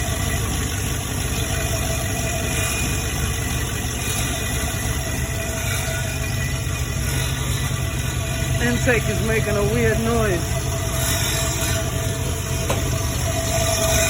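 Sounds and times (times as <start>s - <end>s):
engine idling: 0.0s - 14.0s
faint steady intake tones: 0.0s - 14.0s.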